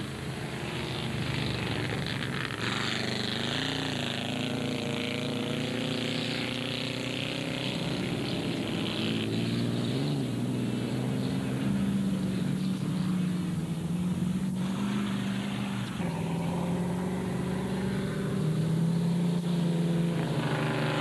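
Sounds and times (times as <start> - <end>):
racing car engines running hard: 0.0 - 21.0.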